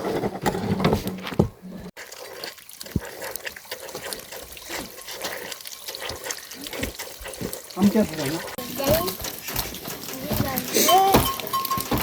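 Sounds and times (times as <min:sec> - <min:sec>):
water trickling and dripping: 0:01.9 - 0:12.0.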